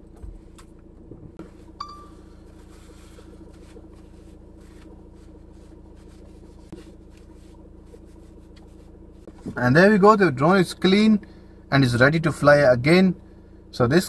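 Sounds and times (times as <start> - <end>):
low hum in car cabin: 0.0 - 14.0.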